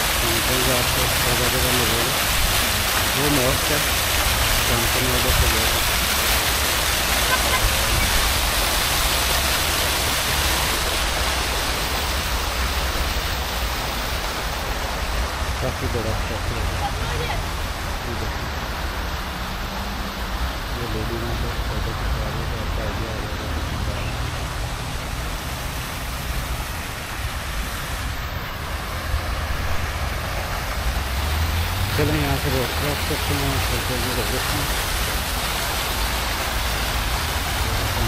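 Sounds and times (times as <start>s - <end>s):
fountain water splashing: 0.0s - 38.0s
road traffic: 0.0s - 38.0s.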